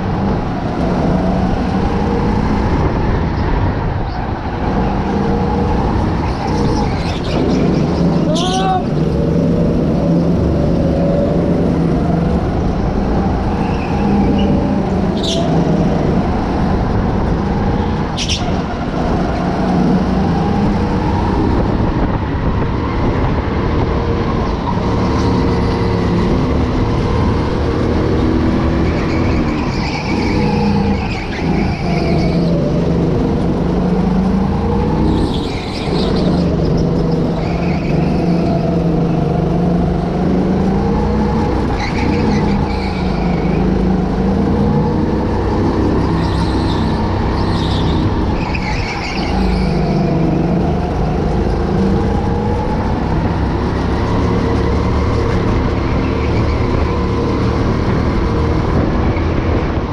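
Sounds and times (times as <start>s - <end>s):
go-kart engines running: 0.0s - 59.9s.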